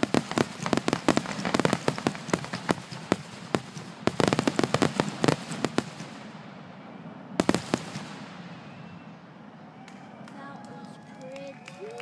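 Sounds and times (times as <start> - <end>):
fireworks bangs: 0.0 - 12.0
fireworks rumble: 0.0 - 12.0.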